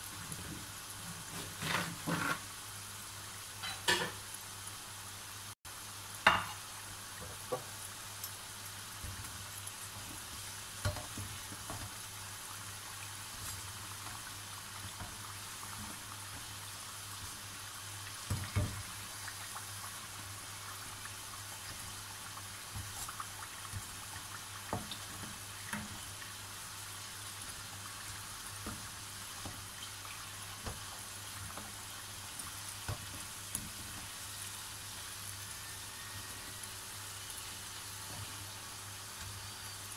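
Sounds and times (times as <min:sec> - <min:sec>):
deep-frying sizzle: 0:00.0 - 0:39.9.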